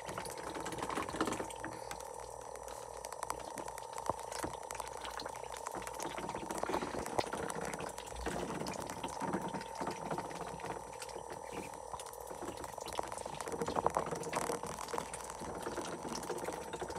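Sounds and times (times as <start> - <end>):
bills slurping with wet clicks: 0.0 - 16.9
ducks dabbling in water: 0.0 - 16.9.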